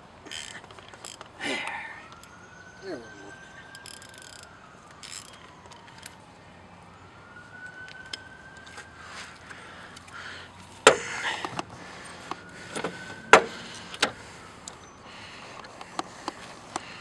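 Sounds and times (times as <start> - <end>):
faint siren wailing: 1.0 - 17.0.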